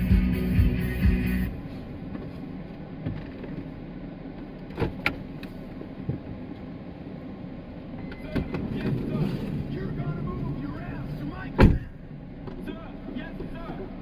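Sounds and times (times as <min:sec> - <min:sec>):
car cabin rumble: 0:00.0 - 0:14.0.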